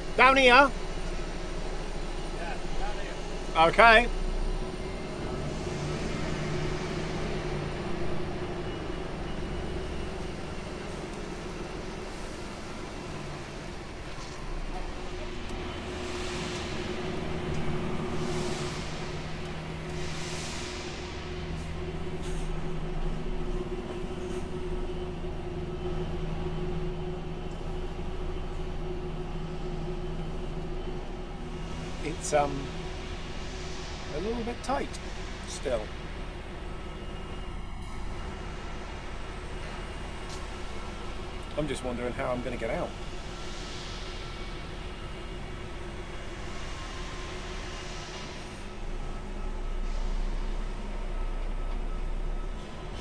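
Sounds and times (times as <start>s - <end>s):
truck diesel engine running: 0.0s - 53.0s.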